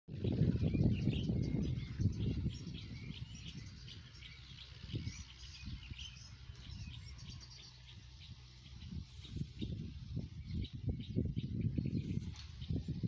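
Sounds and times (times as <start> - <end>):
small birds chirping: 0.1 - 13.0
wind rumble on microphone: 0.1 - 13.0.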